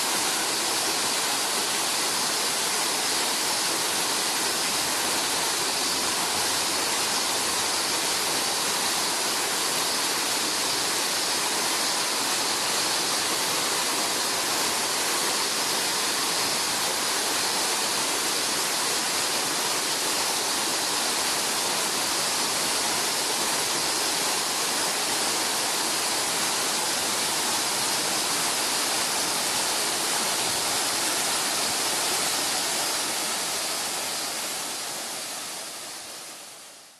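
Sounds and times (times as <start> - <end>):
waterfall pouring: 0.0 - 36.1.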